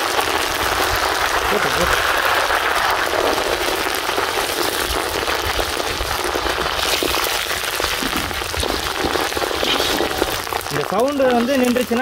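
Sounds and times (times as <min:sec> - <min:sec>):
leaves crackling in hot oil: 0:00.0 - 0:12.0.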